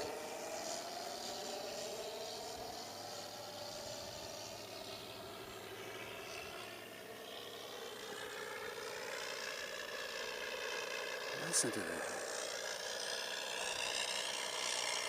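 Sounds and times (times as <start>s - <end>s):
simulated piston aircraft engine: 0.0s - 15.0s.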